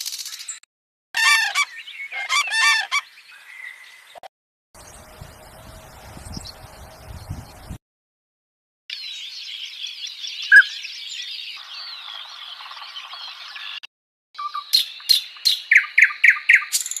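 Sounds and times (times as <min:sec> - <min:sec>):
birds chirping: 0:01.2 - 0:07.8, 0:08.9 - 0:17.0.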